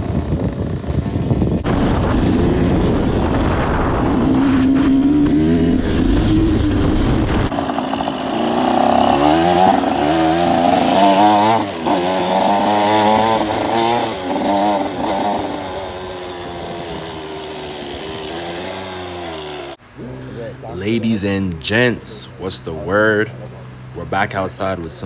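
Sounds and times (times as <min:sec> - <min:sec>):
dirt bike engine revving: 0:00.0 - 0:20.6.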